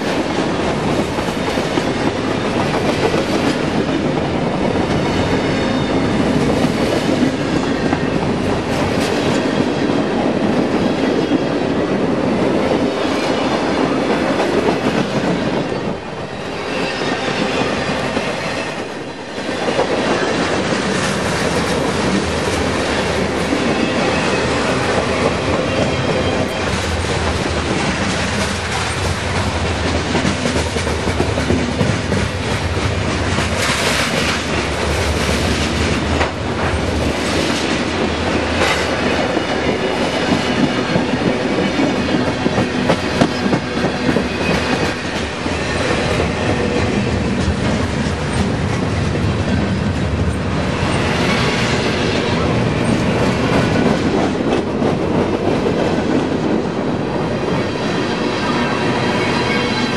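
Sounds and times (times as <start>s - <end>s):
freight train wheels clattering: 0.0s - 59.9s.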